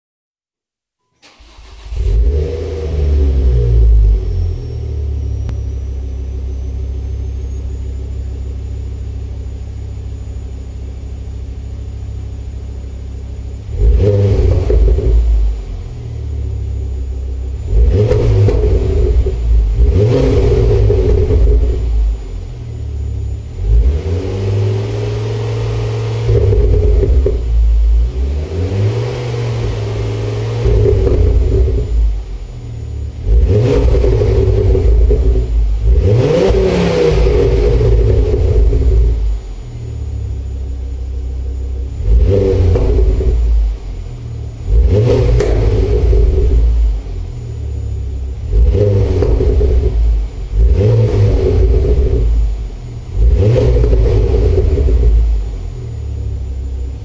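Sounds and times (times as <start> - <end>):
car engine idling and revving: 1.0 - 57.0.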